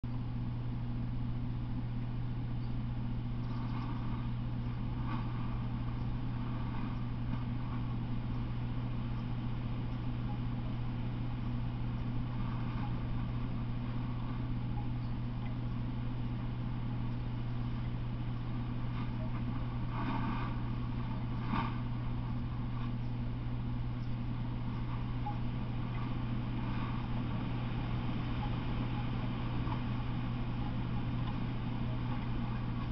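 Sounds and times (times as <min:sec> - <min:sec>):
electrical hum with hiss: 0:00.0 - 0:32.9.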